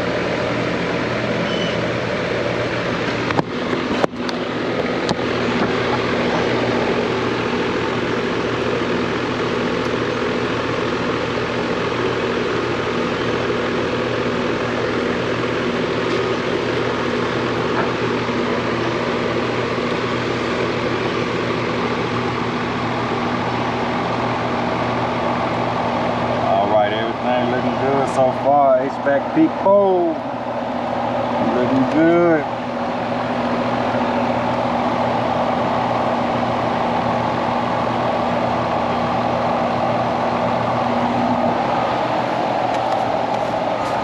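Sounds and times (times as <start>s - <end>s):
air conditioner unit running: 0.0s - 44.0s.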